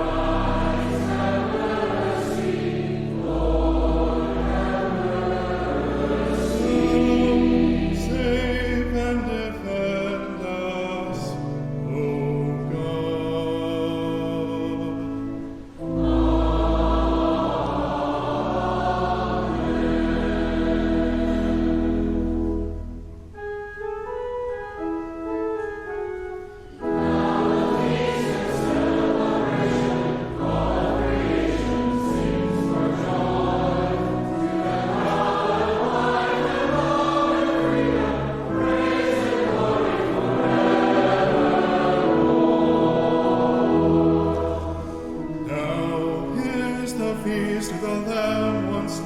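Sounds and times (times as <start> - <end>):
congregation and choir singing hymn: 0.0 - 49.0
instrumental accompaniment: 0.0 - 49.0.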